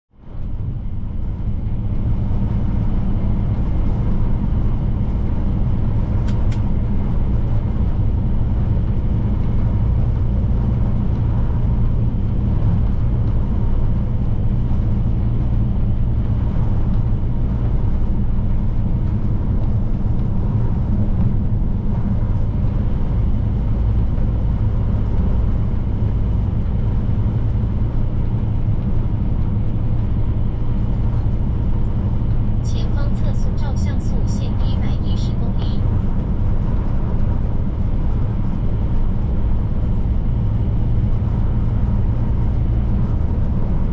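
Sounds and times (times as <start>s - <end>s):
truck diesel engine cruising: 0.2s - 43.9s.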